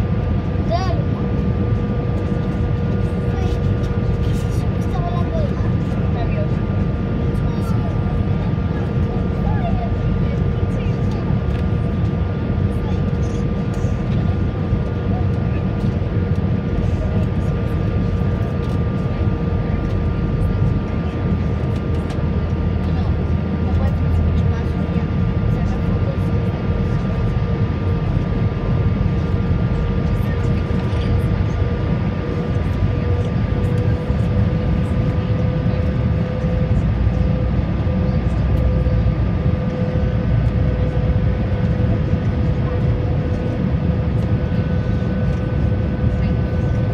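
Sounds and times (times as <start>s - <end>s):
aircraft cabin rumble: 0.0s - 46.9s.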